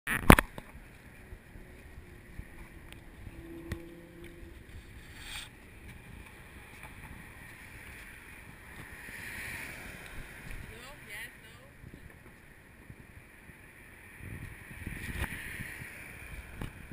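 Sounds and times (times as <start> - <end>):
wind rumble on microphone: 0.1 - 16.9.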